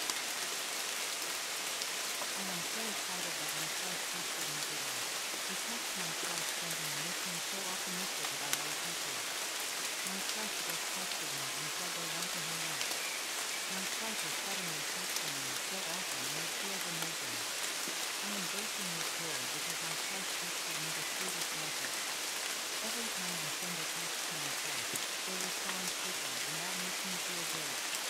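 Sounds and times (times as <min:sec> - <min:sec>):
steady rain falling: 0:00.0 - 0:28.0
sharp raindrop ticks: 0:01.1 - 0:28.0
faint low voice speaking: 0:02.3 - 0:09.3, 0:10.0 - 0:12.9, 0:13.7 - 0:17.6, 0:18.2 - 0:22.0, 0:22.8 - 0:27.9.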